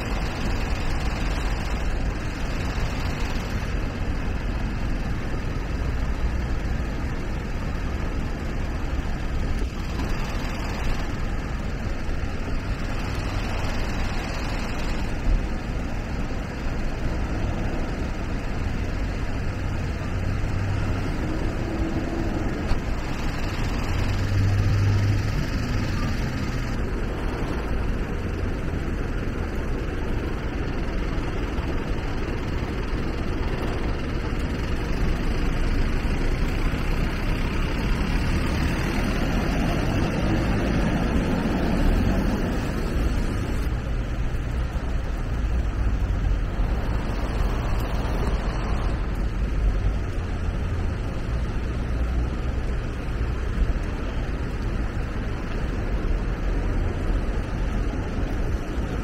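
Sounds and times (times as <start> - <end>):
vehicle engines rumbling: 0.0 - 59.0.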